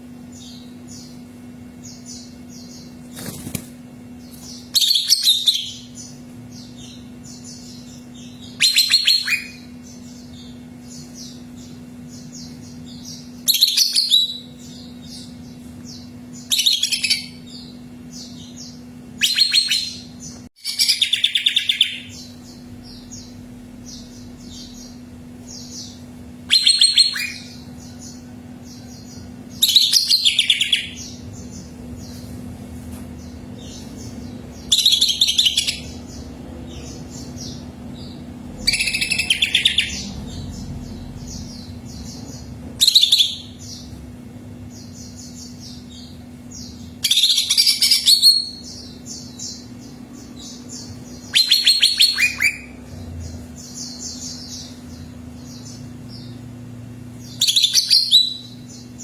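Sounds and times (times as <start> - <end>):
low hum: 0.0 - 59.0
soft bird twittering: 0.2 - 32.4, 33.1 - 44.0, 44.6 - 59.0
bird trilling song: 4.2 - 32.3, 33.2 - 59.0.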